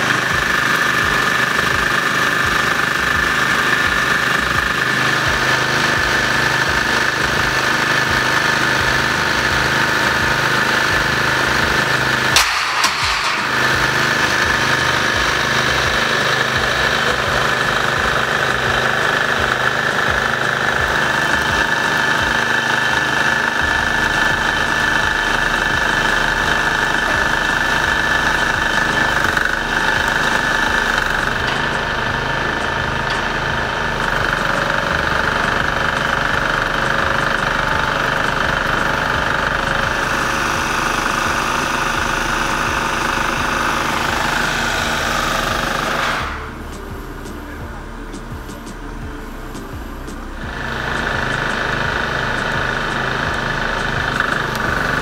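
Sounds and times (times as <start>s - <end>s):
petrol generator running: 0.0s - 55.0s.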